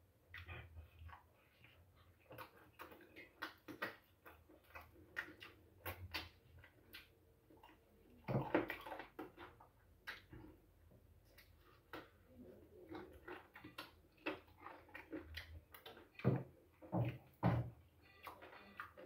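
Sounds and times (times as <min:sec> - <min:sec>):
chewing and lip-smacking: 0:00.2 - 0:19.0.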